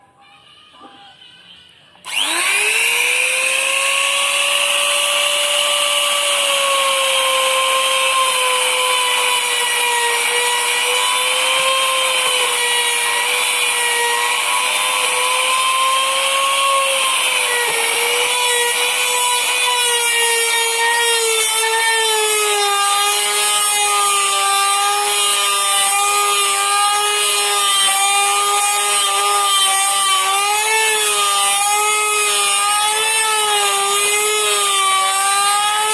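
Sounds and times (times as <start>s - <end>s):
electric router whining: 2.0s - 35.9s
router bit cutting wood: 2.0s - 35.9s.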